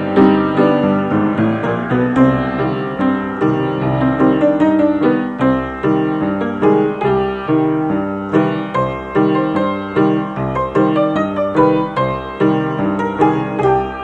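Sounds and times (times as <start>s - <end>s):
classical piano piece: 0.0s - 14.0s.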